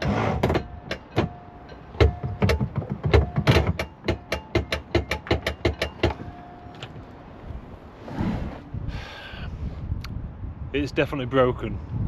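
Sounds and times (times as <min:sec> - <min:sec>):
windlass motor humming: 0:00.0 - 0:10.7.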